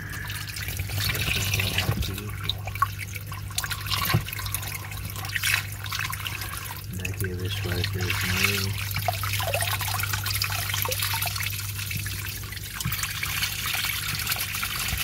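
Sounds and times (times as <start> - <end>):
filter pump hum: 0.0 - 15.0
water drips: 0.0 - 15.0
water jet splashing and bubbling: 0.0 - 15.0.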